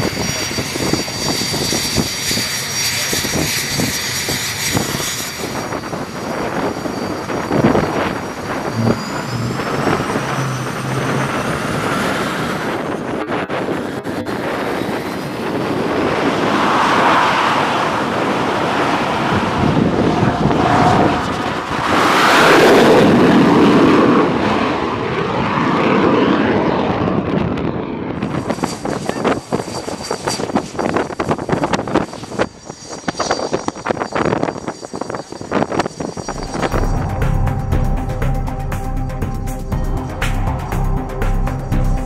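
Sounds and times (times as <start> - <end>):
high jet whine: 0.0 - 42.0
jet engine roaring: 0.0 - 42.0.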